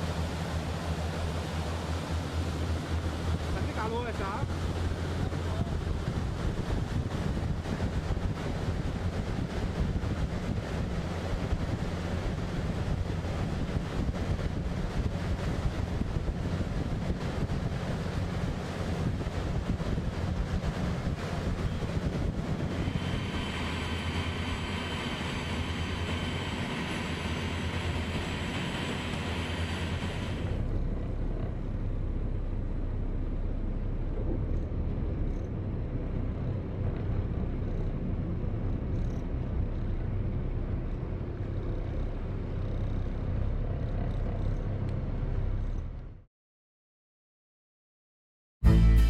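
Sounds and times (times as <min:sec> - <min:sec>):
low steady rumble and hum: 0:00.0 - 0:46.2
steady engine drone: 0:00.0 - 0:46.2
outdoor noise: 0:00.0 - 0:46.3.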